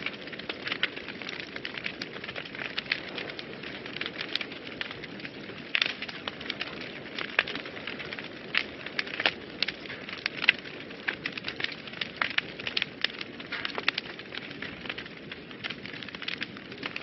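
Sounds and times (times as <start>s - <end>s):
fire crackles and pops: 0.0s - 17.0s
wood fire hissing: 0.0s - 17.0s.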